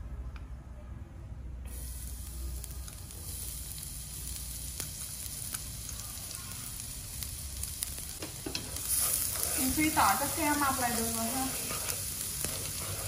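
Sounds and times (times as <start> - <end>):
garlic sizzling in fat: 1.7 - 13.0.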